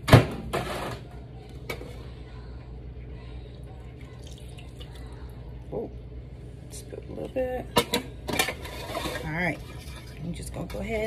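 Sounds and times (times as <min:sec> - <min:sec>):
steady low hum: 0:01.0 - 0:11.0.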